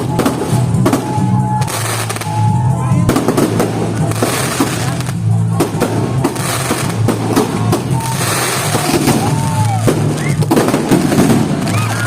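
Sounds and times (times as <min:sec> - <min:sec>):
firework whistle: 0:00.0 - 0:05.1, 0:06.3 - 0:12.0
fireworks bangs and crackles: 0:00.0 - 0:12.0
music with heavy bass beat: 0:00.0 - 0:12.0.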